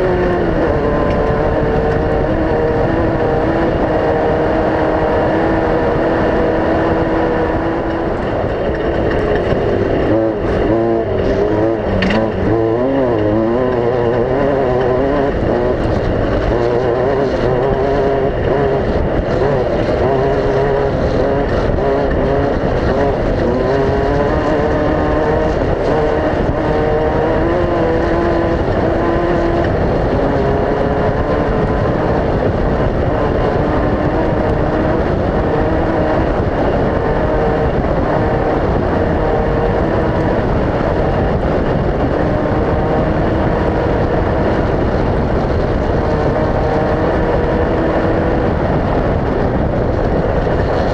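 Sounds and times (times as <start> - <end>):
race vehicle engines droning: 0.0 - 50.9.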